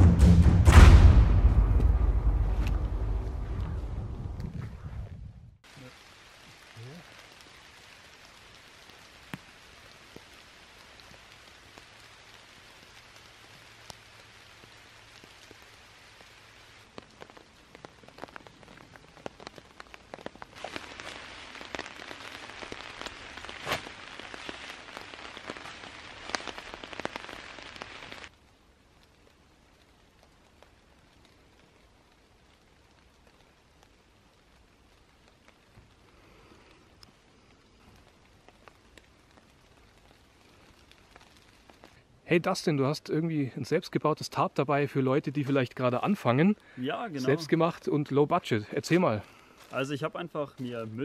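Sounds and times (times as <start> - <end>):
steady rain: 0.0 - 51.0
raindrops pattering: 1.5 - 51.0.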